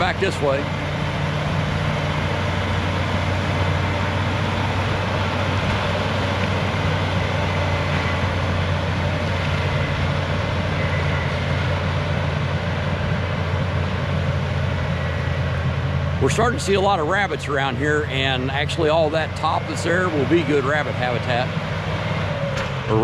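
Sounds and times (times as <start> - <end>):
bulldozer diesel engine droning: 0.0 - 23.0.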